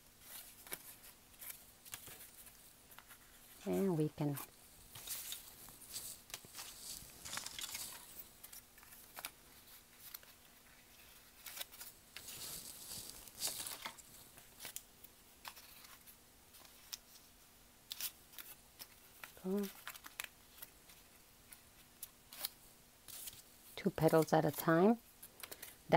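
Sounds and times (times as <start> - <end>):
paper rustling and crinkling: 0.2 - 14.8, 15.4 - 17.3, 17.9 - 25.8.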